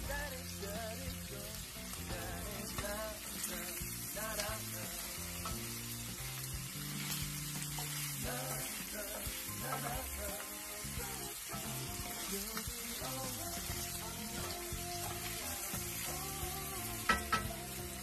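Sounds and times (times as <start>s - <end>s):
background music: 0.0s - 18.0s
meat sizzling in a pan: 0.0s - 18.0s.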